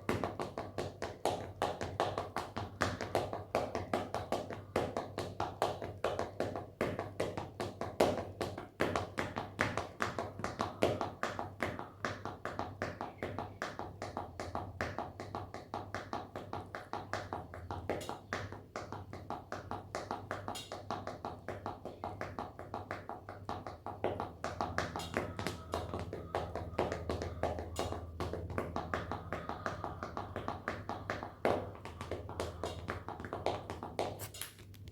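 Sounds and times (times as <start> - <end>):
foot tapping: 0.0 - 34.9.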